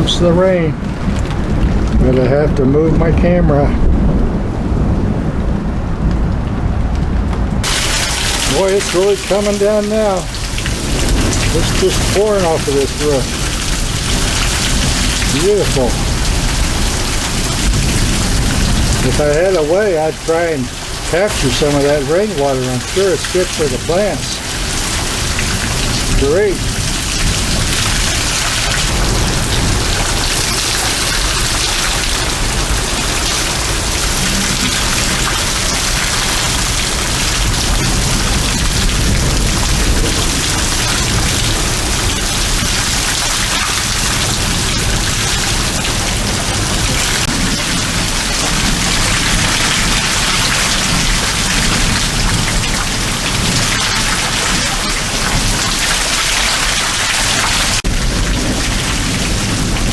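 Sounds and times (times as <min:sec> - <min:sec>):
water running off roof: 0:00.0 - 0:02.9, 0:07.6 - 0:59.9
heavy rain pouring: 0:00.0 - 0:59.9.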